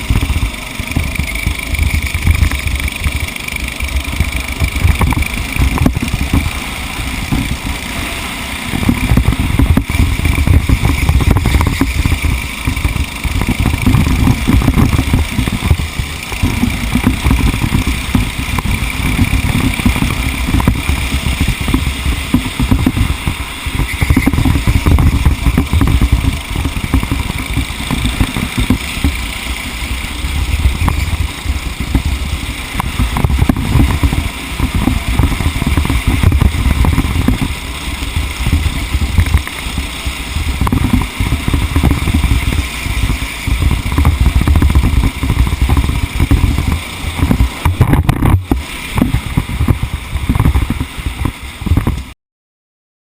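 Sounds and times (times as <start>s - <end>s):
racing engine running hard: 0.0s - 52.1s.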